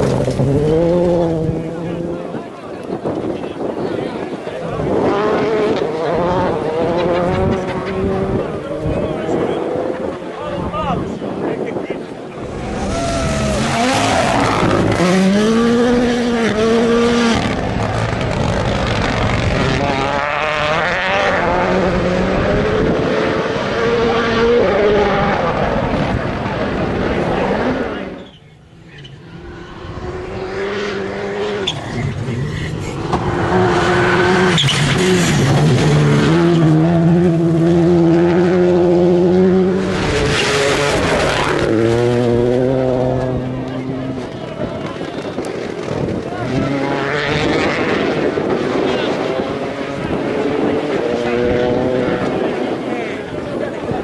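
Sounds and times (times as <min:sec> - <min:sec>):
rally car engine revving: 0:00.0 - 0:03.8, 0:04.5 - 0:10.4, 0:12.4 - 0:54.0.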